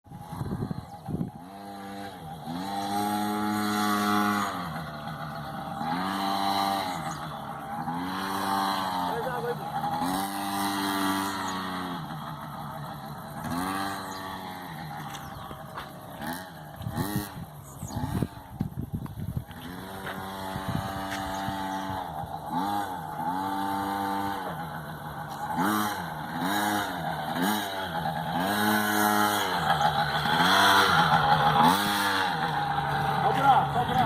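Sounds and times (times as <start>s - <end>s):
motocross engine revving: 0.1s - 34.0s.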